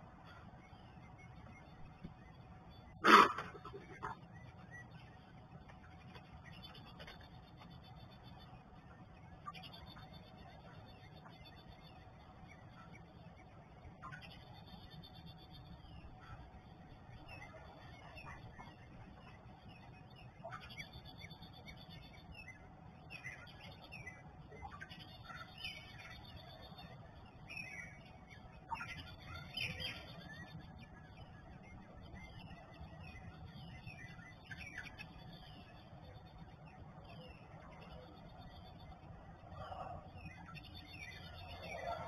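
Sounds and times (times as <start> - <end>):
faint low hum: 0.0 - 42.0
songbirds chirping and whistling: 0.0 - 42.0.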